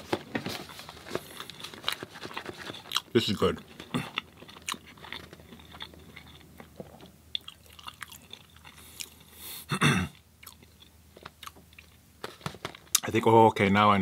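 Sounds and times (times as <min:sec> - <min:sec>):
person chewing crunchy food: 0:00.8 - 0:13.0.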